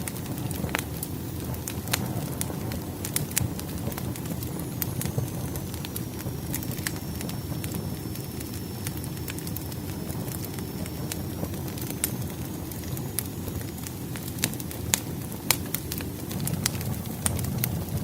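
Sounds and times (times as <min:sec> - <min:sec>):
firewood burning with crackles: 0:00.0 - 0:18.0.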